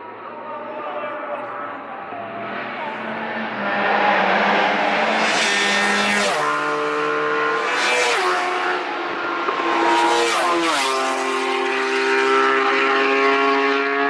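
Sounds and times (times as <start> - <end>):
racing motorcycles passing: 0.2 - 14.0.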